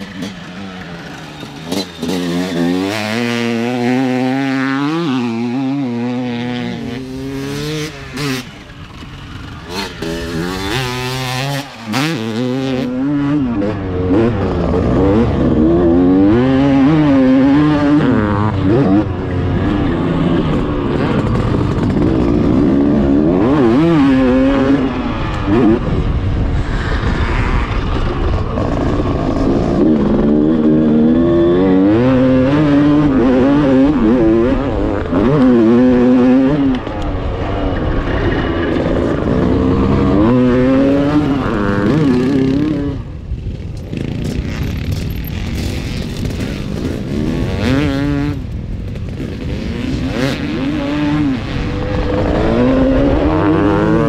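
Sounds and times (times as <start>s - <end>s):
motocross bike engine revving: 0.0s - 26.2s, 27.5s - 54.0s.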